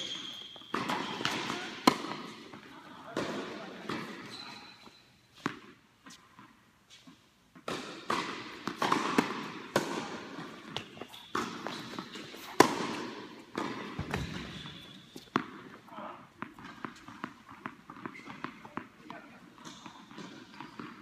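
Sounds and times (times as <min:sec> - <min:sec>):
tennis balls struck by racquets: 0:00.0 - 0:04.3, 0:07.5 - 0:21.0
tennis balls bouncing on hard court: 0:00.0 - 0:04.5, 0:05.3 - 0:06.6, 0:07.5 - 0:21.0.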